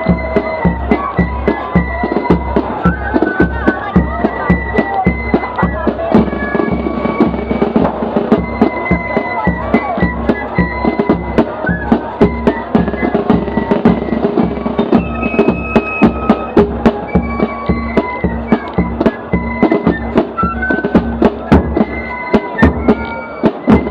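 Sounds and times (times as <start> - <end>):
fife melody: 0.0 - 23.9
side drum strokes: 0.0 - 23.9.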